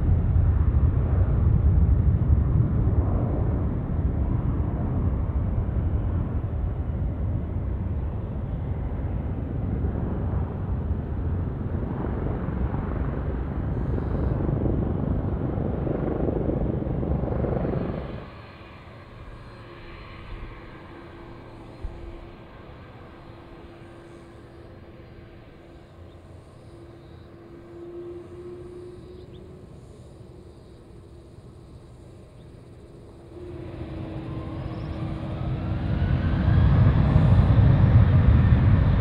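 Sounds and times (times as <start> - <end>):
jet engines idling whine: 0.0 - 39.0
jet engines loud low rumble: 0.0 - 39.0.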